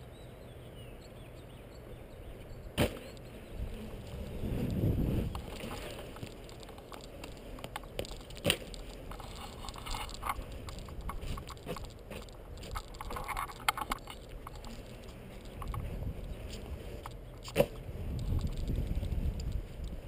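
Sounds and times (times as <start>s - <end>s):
wheels rumbling over concrete: 3.4s - 20.0s.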